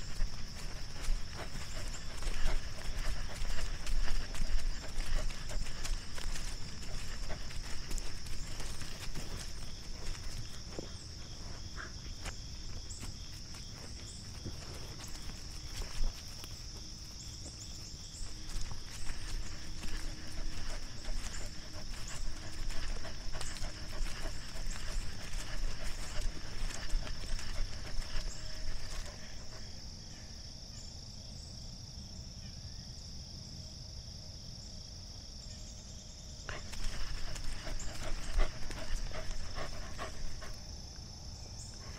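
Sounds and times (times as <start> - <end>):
light footsteps: 0.0 - 29.7, 36.5 - 41.1
high-pitched insect chorus: 0.0 - 41.9.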